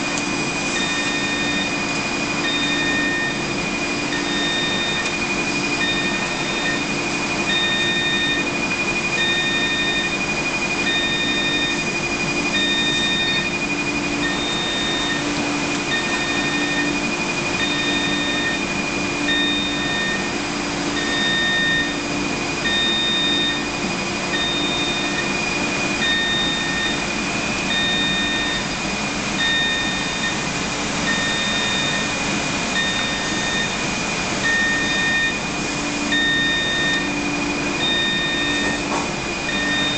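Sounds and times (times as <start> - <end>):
constant high whine: 0.0 - 39.9
steady machine hum: 0.0 - 39.9
electronic beep: 0.8 - 20.3, 21.0 - 25.4, 26.0 - 28.7, 29.4 - 30.4, 31.0 - 32.2, 32.8 - 33.8, 34.4 - 35.4, 36.0 - 39.9.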